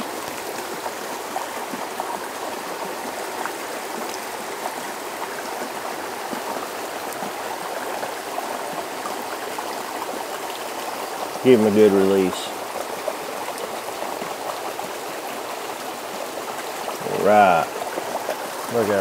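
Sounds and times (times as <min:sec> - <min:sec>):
creek water flowing over rocks: 0:00.0 - 0:19.0.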